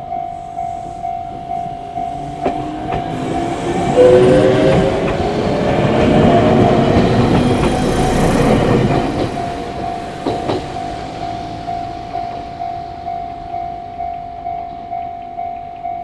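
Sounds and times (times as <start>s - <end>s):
crossing alarm ringing: 0.0s - 16.0s
train wheels clattering: 0.2s - 15.8s.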